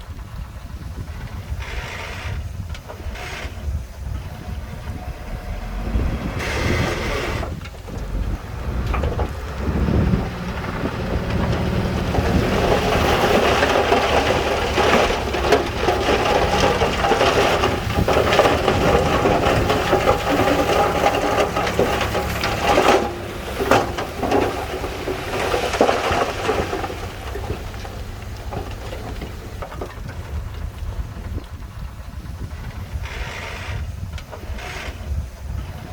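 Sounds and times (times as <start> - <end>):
diesel engine humming: 0.0 - 35.9
rattling rumble: 0.0 - 35.9.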